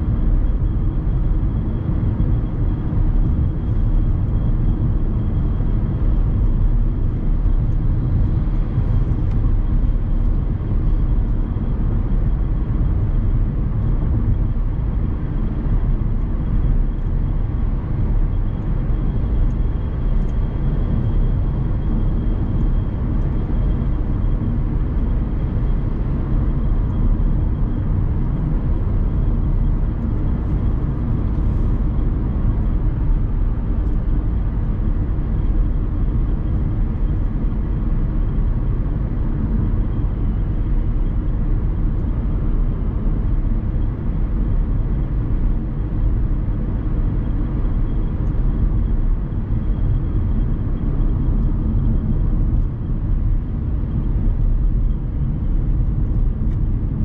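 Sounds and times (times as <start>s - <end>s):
car engine drone: 0.0s - 57.0s
road and tyre noise: 0.0s - 57.0s.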